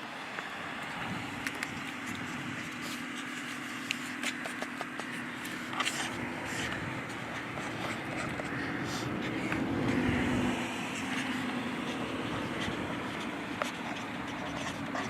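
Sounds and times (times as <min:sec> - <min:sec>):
steady background hum: 0:00.1 - 0:15.0
light clicks and scrapes: 0:00.4 - 0:10.3, 0:10.9 - 0:15.0.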